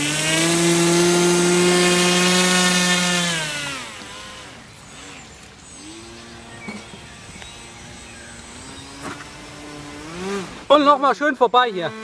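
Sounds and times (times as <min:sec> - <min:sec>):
electric motor propeller whine: 0:00.0 - 0:10.8.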